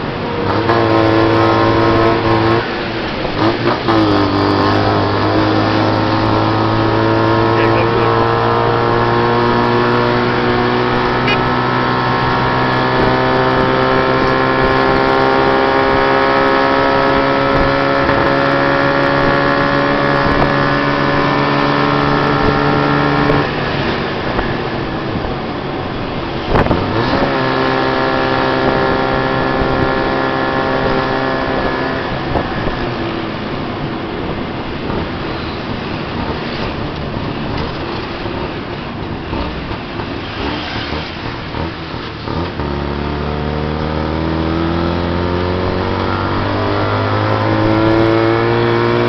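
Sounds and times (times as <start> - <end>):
traffic road noise: 0.0 - 49.0.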